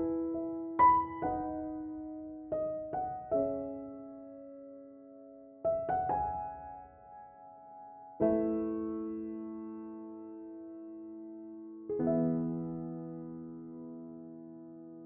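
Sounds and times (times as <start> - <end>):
soft slow piano notes: 0.0 - 15.0.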